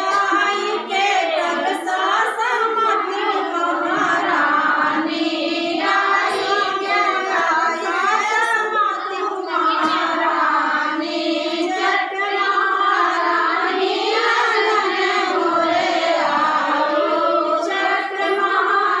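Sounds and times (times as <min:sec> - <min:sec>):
women singing devotional song: 0:00.0 - 0:19.0.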